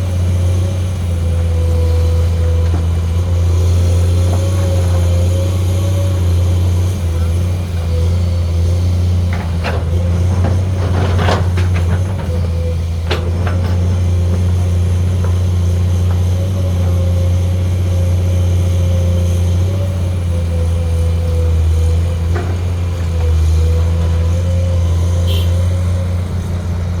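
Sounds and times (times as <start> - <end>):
excavator diesel engine droning: 0.0 - 27.0.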